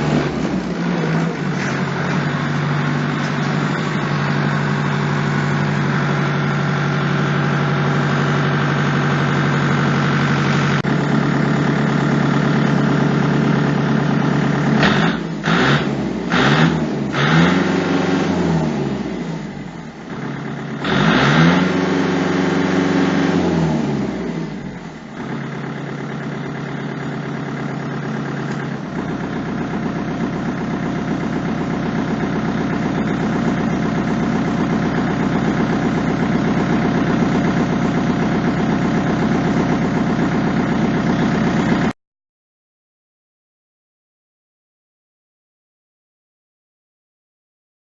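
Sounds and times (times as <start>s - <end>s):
tractor engine idling and revving: 0.0s - 42.0s.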